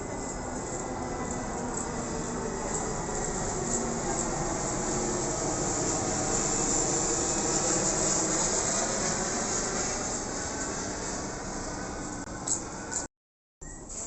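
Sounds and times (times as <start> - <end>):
aircraft engine rushing hiss: 0.0 - 13.1.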